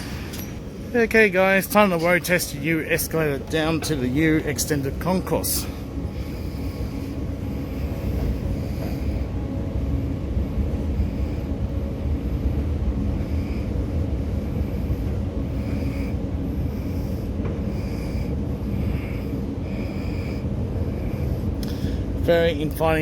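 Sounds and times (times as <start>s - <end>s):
escalator mechanical rumble: 0.0s - 23.0s
faint hum: 0.0s - 23.0s.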